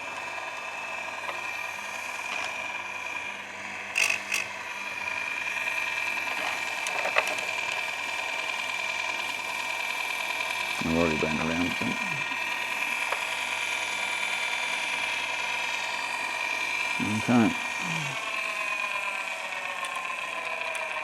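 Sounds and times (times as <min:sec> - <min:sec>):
chainsaw sharpener whining: 0:00.0 - 0:21.0
grinding wheel on chain teeth: 0:00.0 - 0:21.0.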